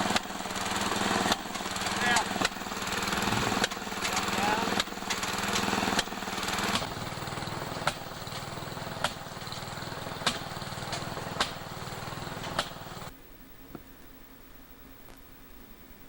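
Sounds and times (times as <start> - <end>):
sharp engine knock: 0.0 - 13.1
small engine running: 0.0 - 13.1.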